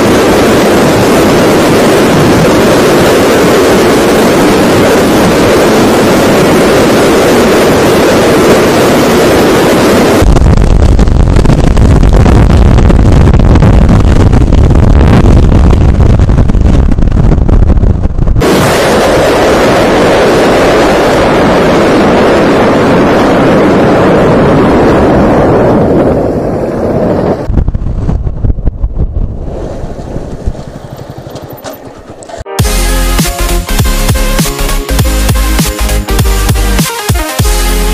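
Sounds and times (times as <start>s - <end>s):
wind rushing over microphone: 0.0s - 32.7s
motorcycle riding noise: 0.0s - 36.8s.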